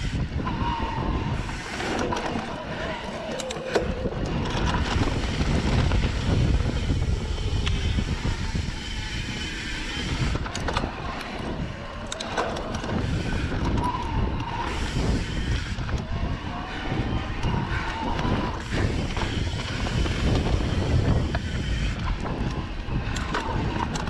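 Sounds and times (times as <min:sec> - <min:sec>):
bike tyres on dirt: 0:00.0 - 0:24.0
wind buffeting microphone: 0:00.0 - 0:24.0
bike rattling over bumps: 0:01.3 - 0:24.0.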